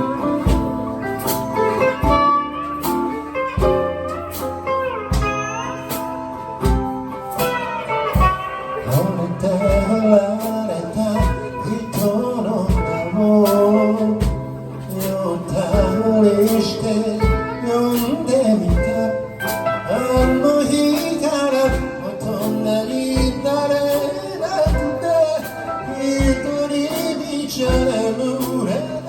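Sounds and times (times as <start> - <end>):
lead guitar bending notes: 0.0 - 29.0
live blues-rock band: 0.0 - 29.0.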